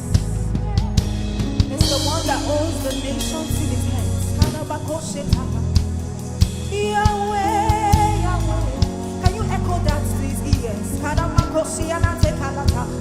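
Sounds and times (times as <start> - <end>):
person singing: 0.0 - 5.8, 6.7 - 13.0
live band playing slow song: 0.0 - 13.0.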